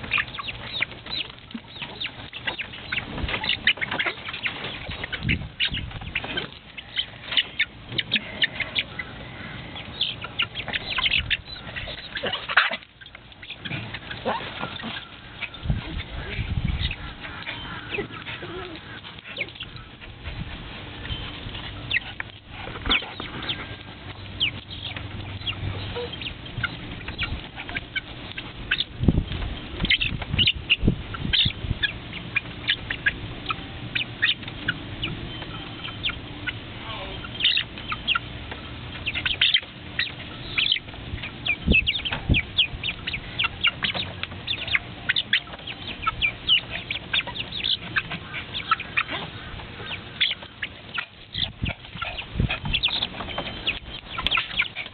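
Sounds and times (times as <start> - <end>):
chickens clucking and squawking: 0.0 - 54.9.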